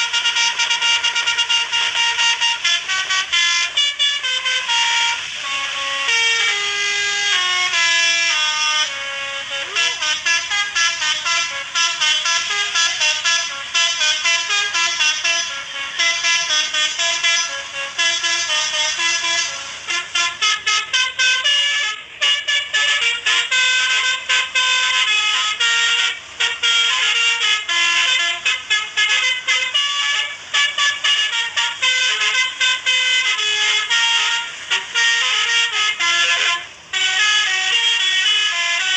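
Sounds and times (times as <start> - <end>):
multi-tone vehicle horn tune: 0.0 - 38.9.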